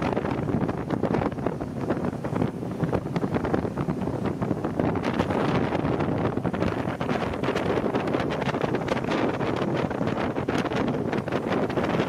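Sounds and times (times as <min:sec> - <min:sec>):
boat motor: 0:00.0 - 0:12.0
water noise: 0:00.0 - 0:12.0
wind buffeting microphone: 0:00.0 - 0:12.0.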